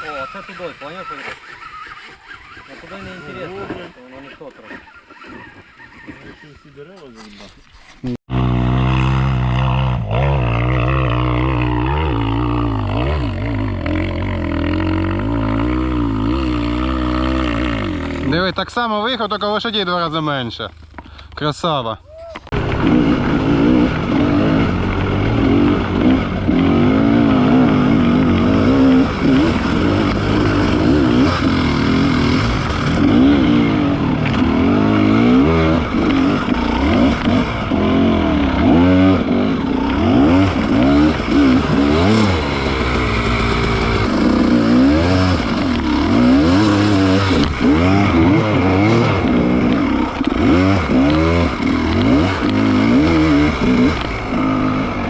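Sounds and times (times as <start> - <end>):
motorcycle engine revving: 0.0 - 6.4, 8.3 - 20.4, 22.5 - 55.0.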